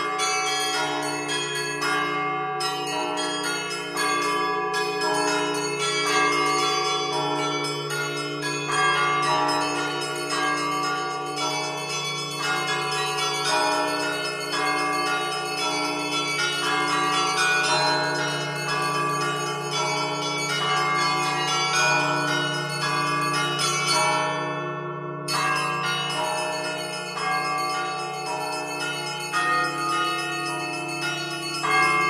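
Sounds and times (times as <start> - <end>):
low hum of large bell: 0.0 - 32.0
small church bells ringing: 0.0 - 32.0.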